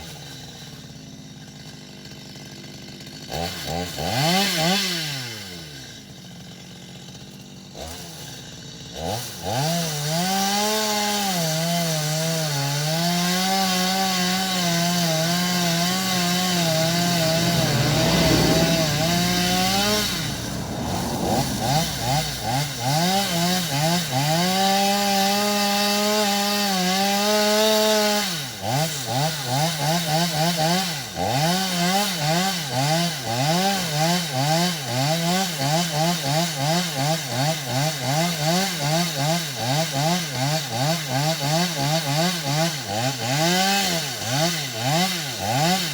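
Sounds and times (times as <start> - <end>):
chainsaw engine revving: 0.0 - 45.9.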